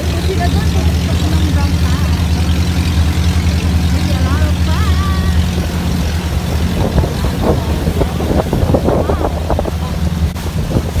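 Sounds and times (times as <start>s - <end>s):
faint voices: 0.0s - 10.6s
boat engine droning: 0.0s - 11.0s.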